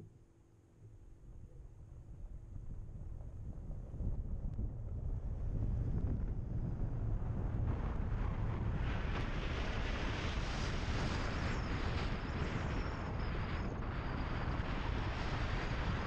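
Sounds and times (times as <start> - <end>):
wind buffeting microphone: 1.3 - 16.0.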